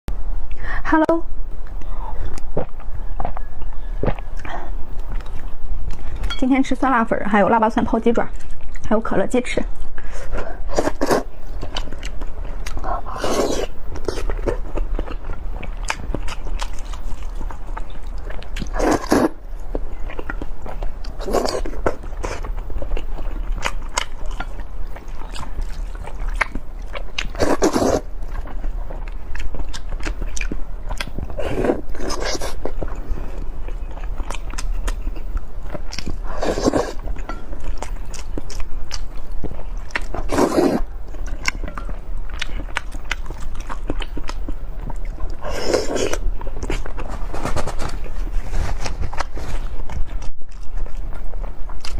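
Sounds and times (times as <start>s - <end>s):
chewing and crunching: 1.6s - 6.4s, 8.1s - 8.9s, 9.9s - 51.9s.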